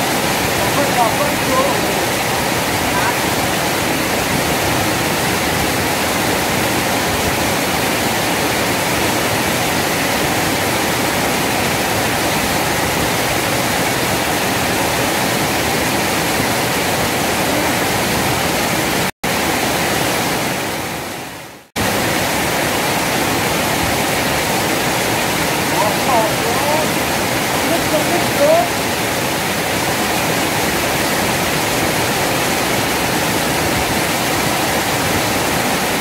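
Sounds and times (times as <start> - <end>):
water rushing over a weir: 0.0 - 36.0.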